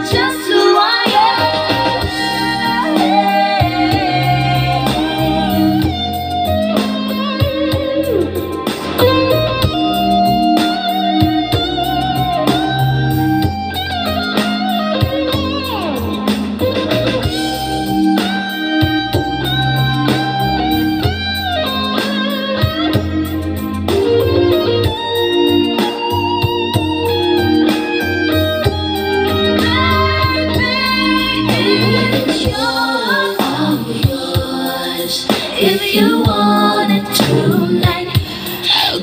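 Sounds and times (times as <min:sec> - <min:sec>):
steady bass line: 0:00.0 - 0:38.4
electric guitar with bent notes: 0:00.0 - 0:39.0.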